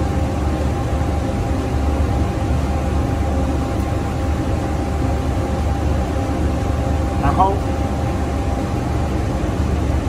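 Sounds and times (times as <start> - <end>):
ventilation fan hum: 0.0 - 10.0.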